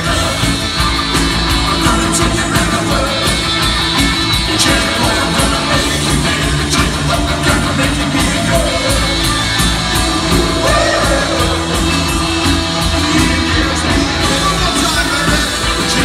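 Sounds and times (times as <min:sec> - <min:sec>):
drum beat with cymbals: 0:00.0 - 0:16.0
person singing: 0:00.0 - 0:16.0
punk rock band playing live: 0:00.0 - 0:16.0.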